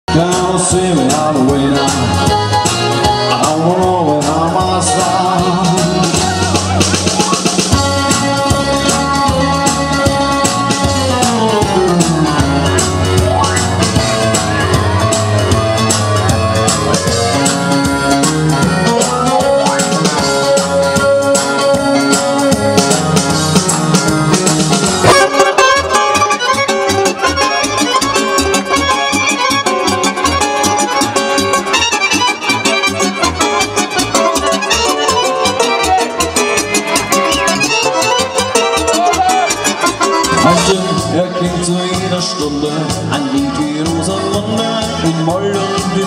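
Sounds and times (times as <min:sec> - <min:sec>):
accordion dance music: 0:00.1 - 0:46.0.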